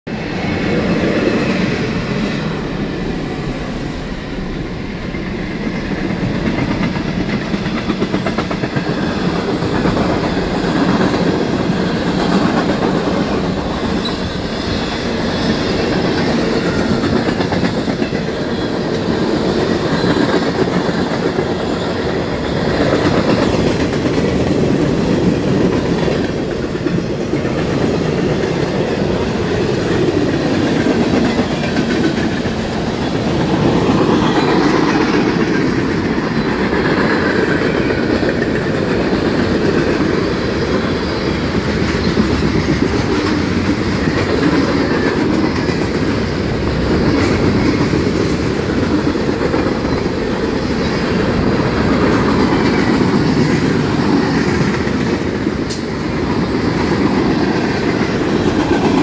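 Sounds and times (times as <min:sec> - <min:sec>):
freight train rumbling past: 0:00.1 - 0:59.0.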